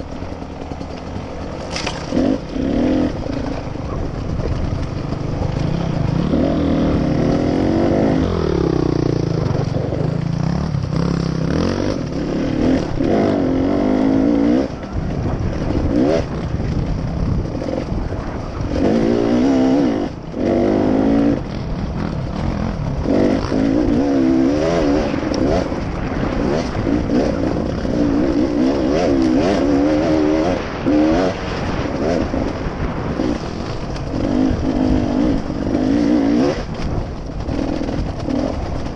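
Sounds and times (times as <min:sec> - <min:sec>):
steady rushing noise: 0:00.0 - 0:38.9
vehicle engine revving: 0:01.4 - 0:38.9.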